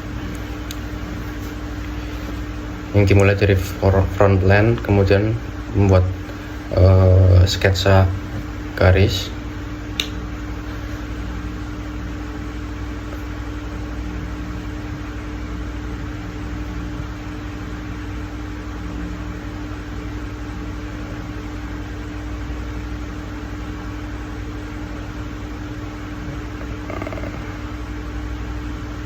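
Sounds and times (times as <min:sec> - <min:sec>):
motor hum and hiss: 0:00.0 - 0:29.0.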